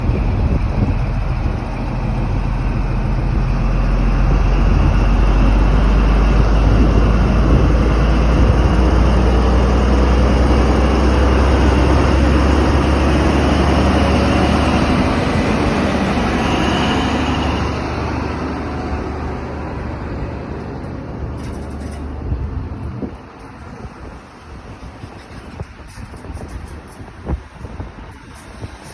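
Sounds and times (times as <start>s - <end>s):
diesel engines droning under load: 0.0s - 28.9s
train rumble: 0.0s - 28.9s.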